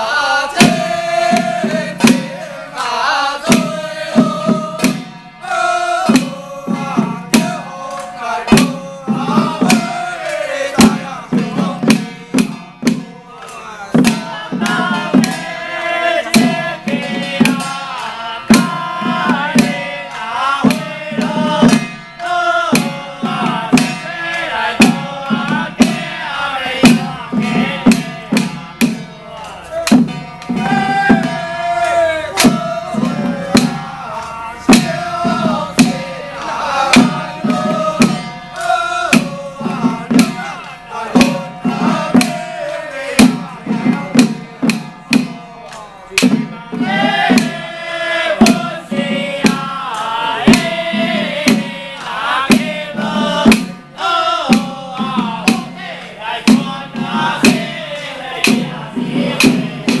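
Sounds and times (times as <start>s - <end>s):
drum and percussion strikes: 0.0s - 60.0s.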